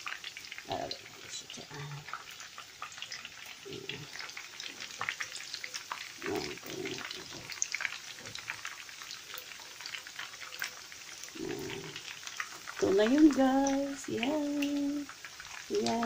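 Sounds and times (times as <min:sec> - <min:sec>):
meatballs deep-frying in oil: 0:00.0 - 0:16.0.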